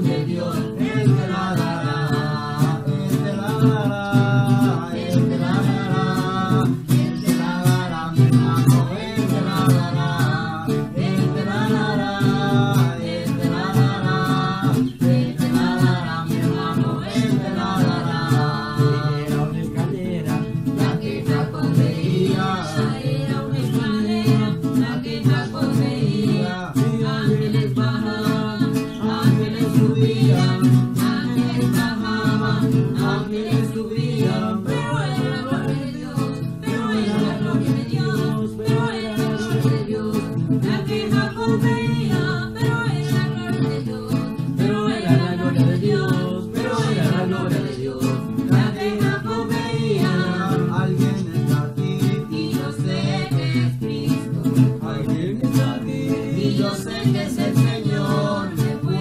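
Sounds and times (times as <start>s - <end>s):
acoustic guitar strumming: 0.0s - 59.0s
person singing: 0.0s - 59.0s.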